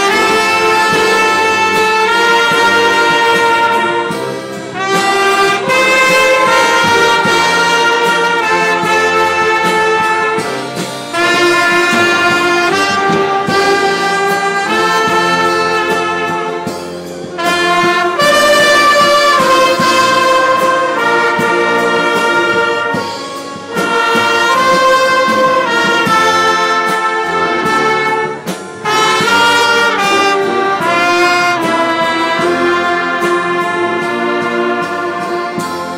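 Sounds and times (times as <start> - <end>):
orchestra playing sustained chords: 0.0 - 35.9.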